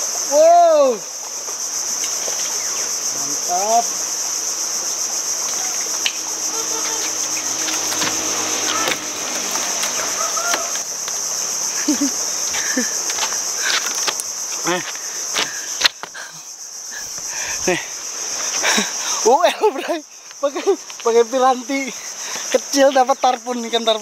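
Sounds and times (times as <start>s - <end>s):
insects shrilling: 0.0s - 24.0s.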